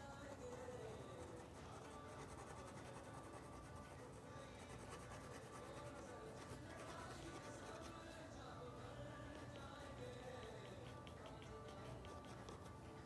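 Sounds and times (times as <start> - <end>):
pen nib scratching on paper: 0.0 - 8.2, 9.2 - 13.0.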